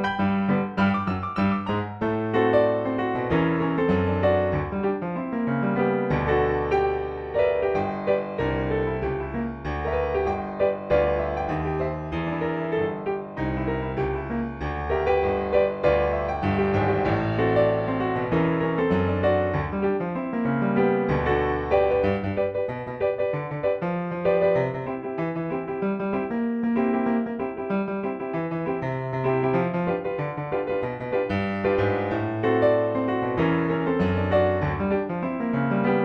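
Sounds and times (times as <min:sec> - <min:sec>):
solo blues piano: 0:00.0 - 0:36.0.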